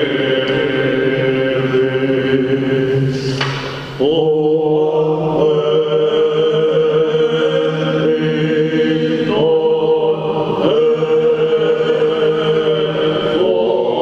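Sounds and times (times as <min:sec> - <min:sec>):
low vocal drone: 0:00.0 - 0:14.0.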